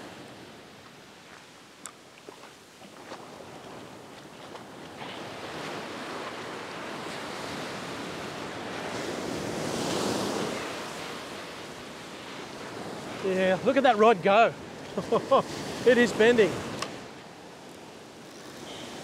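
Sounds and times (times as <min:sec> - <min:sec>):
ocean surf washing up beach: 0:00.0 - 0:19.0.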